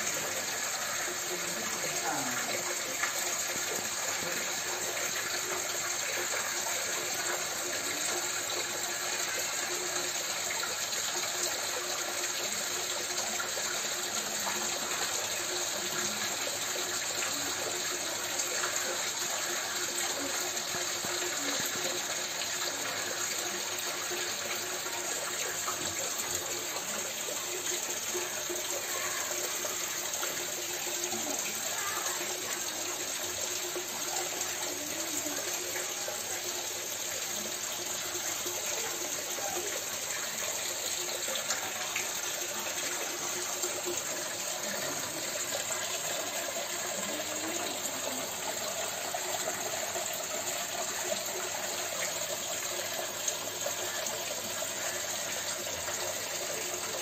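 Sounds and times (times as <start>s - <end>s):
waterfall splashing into pond: 0.0s - 57.0s.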